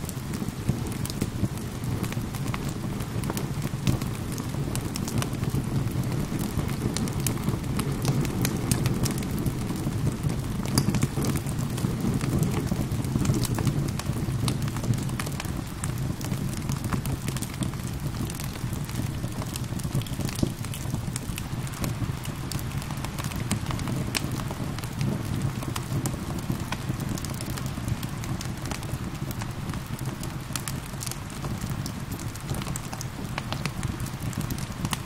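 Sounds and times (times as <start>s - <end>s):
rain falling: 0.0s - 35.0s
wood fire crackling and popping: 0.0s - 35.0s.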